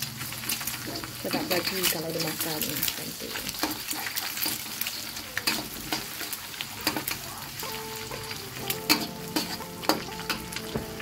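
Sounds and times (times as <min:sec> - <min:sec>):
egg sizzling in oil: 0:00.0 - 0:11.0
metal spatula scraping wok: 0:00.0 - 0:11.0.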